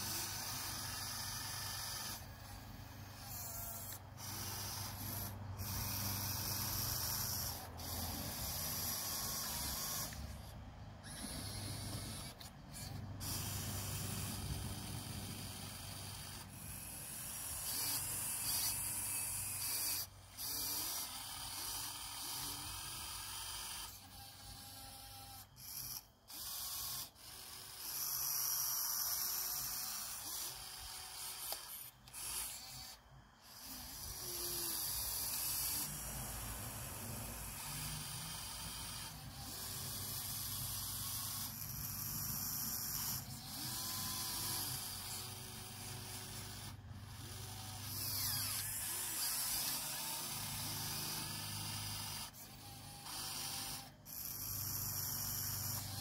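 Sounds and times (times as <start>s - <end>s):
small electric motors whirring: 0.0s - 56.0s.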